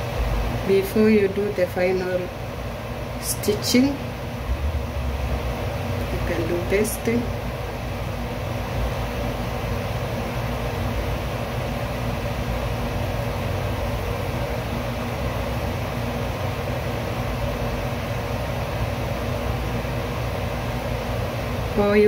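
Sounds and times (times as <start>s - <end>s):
steady hum with hiss: 0.0s - 22.0s.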